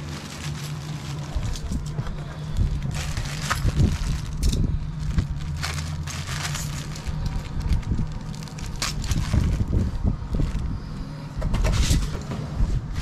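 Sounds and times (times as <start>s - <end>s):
plastic bag crinkling: 0.0s - 11.0s
low steady hum: 0.0s - 13.0s.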